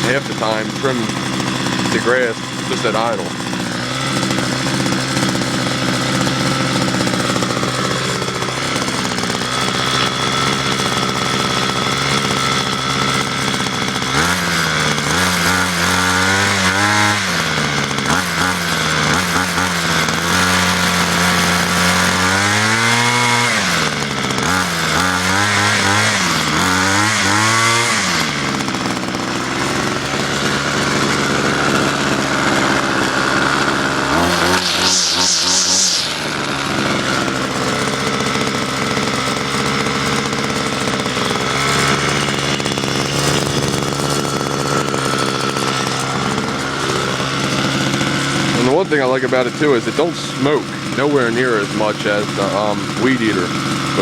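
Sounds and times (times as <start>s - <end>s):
string trimmer engine revving: 0.0s - 54.0s.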